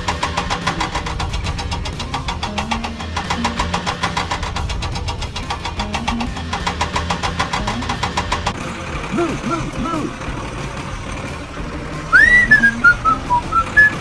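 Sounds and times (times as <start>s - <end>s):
truck diesel engine chugging: 0.0s - 14.0s.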